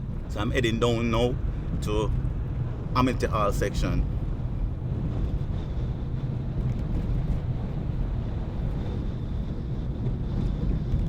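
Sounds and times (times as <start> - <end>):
car engine and tyre rumble: 0.0 - 11.0
wind buffeting microphone: 0.0 - 11.0.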